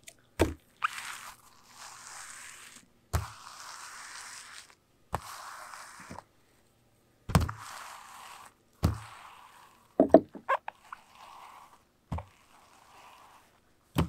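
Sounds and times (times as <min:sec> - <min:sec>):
roller rasping across fabric: 0:00.8 - 0:06.3, 0:07.4 - 0:13.7.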